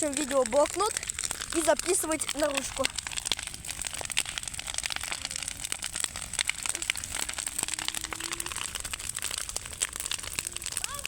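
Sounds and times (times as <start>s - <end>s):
bonfire crackling: 0.0s - 11.0s.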